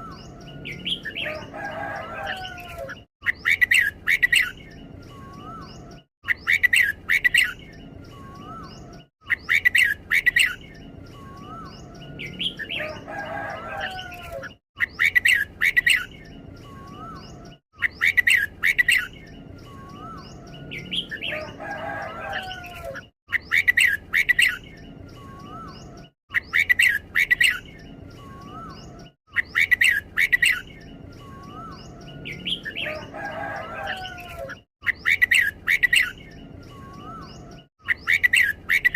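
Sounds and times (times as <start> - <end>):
bulbul singing whistled phrases: 0.0 - 14.2, 14.8 - 22.7, 23.3 - 38.9.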